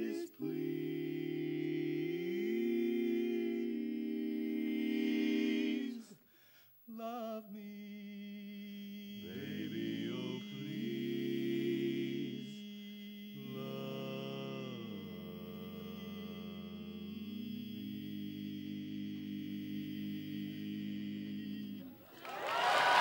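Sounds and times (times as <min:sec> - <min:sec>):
men singing in close harmony: 0:00.0 - 0:06.2, 0:06.9 - 0:22.0.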